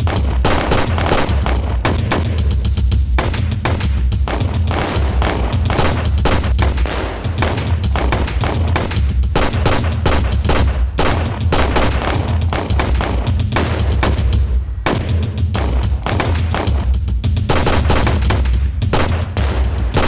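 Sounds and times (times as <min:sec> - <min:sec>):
rapid gunfire: 0:00.0 - 0:20.0.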